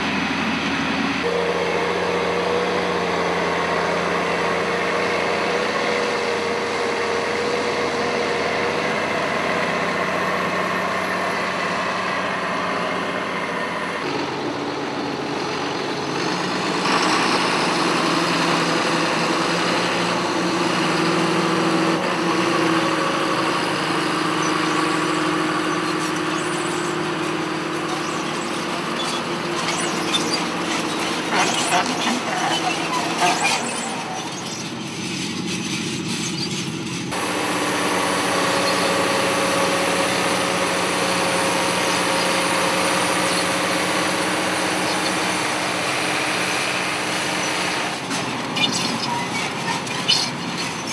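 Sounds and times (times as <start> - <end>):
tractor engines under load: 0.0 - 50.9.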